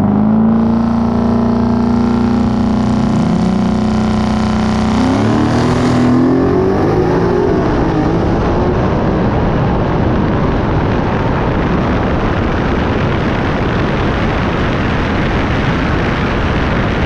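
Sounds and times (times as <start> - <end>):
car engine: 0.0 - 14.7.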